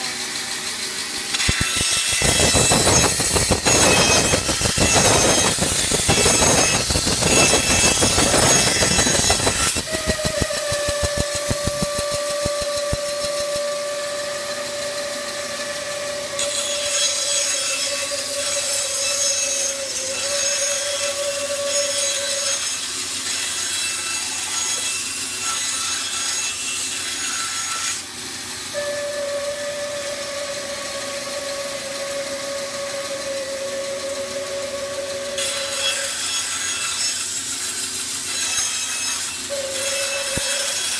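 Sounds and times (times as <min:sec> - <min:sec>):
bandsaw cutting wood: 0:00.0 - 0:40.9.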